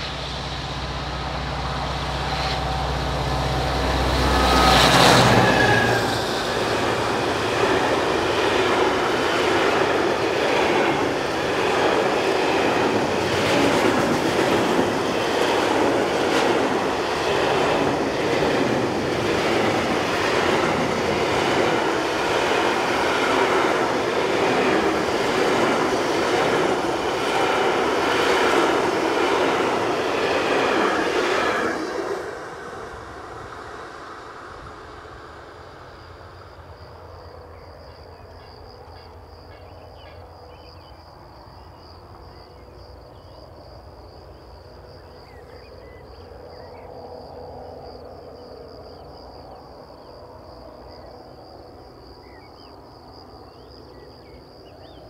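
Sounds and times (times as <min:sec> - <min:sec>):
freight train wheels on rails: 0:00.0 - 0:55.0
high insect trill: 0:00.2 - 0:55.0.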